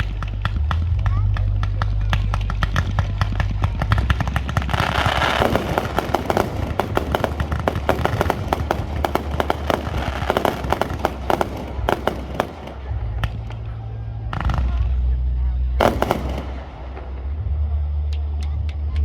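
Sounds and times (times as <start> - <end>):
fireworks popping and crackling: 0.0 - 18.4
low rumble: 0.0 - 19.0.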